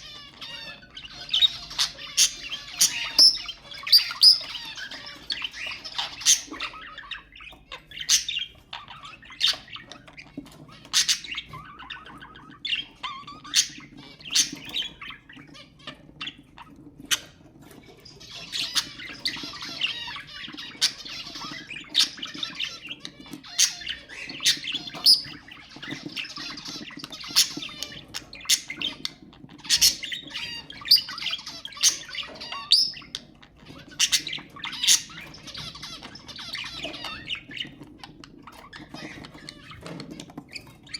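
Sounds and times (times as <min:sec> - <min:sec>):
budgerigars chattering and warbling: 0:00.0 - 0:40.9
sharp squawks and chirps: 0:00.0 - 0:40.9.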